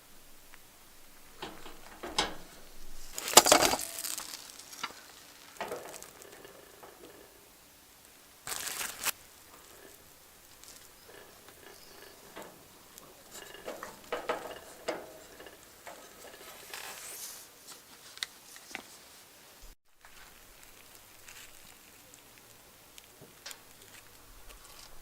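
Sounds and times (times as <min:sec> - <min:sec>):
campfire crackles: 0:00.0 - 0:25.0.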